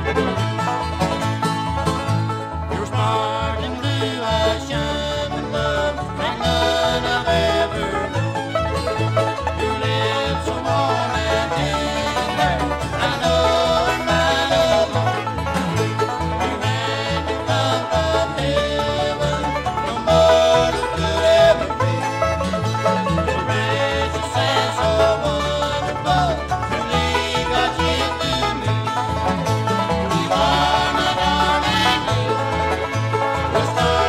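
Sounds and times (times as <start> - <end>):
bluegrass band playing: 0.0 - 34.0
driving banjo: 0.0 - 34.0.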